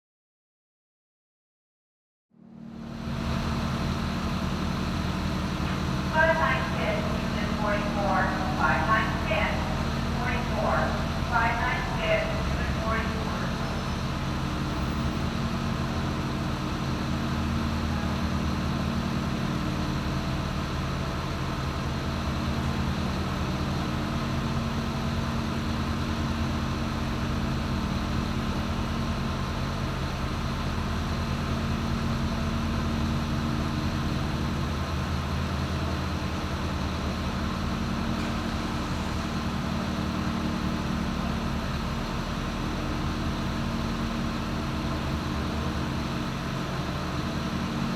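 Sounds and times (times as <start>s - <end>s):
diesel bus engine idling: 2.5s - 47.9s
station background noise: 2.8s - 47.9s.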